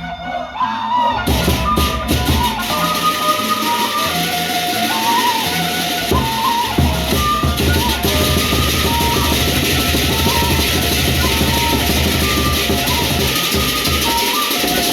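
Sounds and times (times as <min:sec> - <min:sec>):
sustained sliding melody: 0:00.0 - 0:14.9
cymbals: 0:01.3 - 0:14.9
large drums beating: 0:01.3 - 0:14.9.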